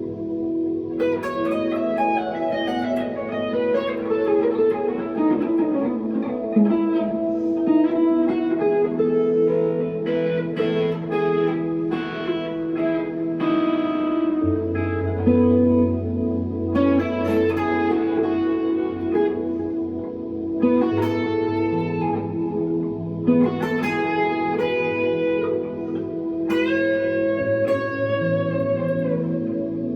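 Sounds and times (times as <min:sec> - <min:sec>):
electric guitar with delay and reverb: 0:00.0 - 0:29.9.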